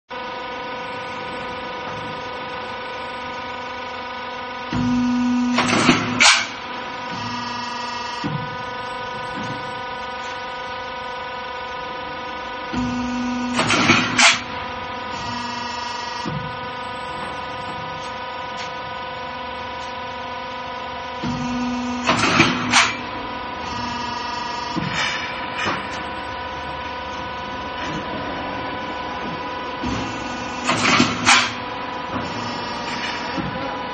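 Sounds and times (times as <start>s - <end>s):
machine electric hum: 0.1s - 33.9s.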